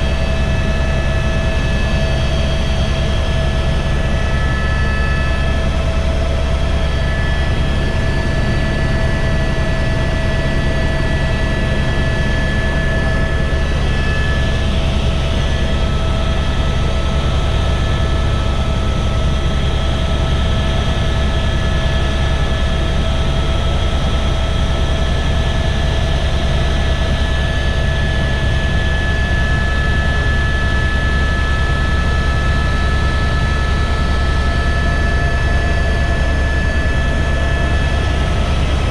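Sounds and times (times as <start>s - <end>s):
helicopter rotor and turbine drone: 0.0s - 38.9s.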